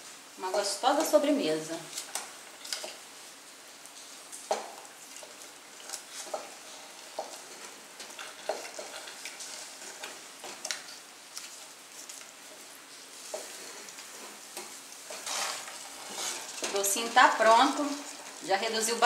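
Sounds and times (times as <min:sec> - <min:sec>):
faint hiss of cooking mixture: 0:00.0 - 0:19.0
wooden spoon stirring thick mixture: 0:00.2 - 0:19.0.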